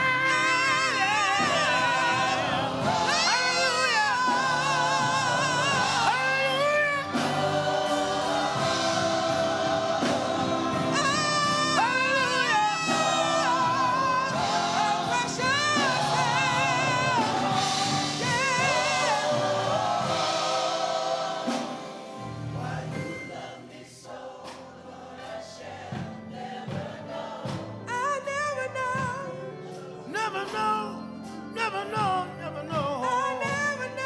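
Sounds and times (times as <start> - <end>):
gospel singing: 0.0 - 34.0
instrumental accompaniment: 0.0 - 34.0.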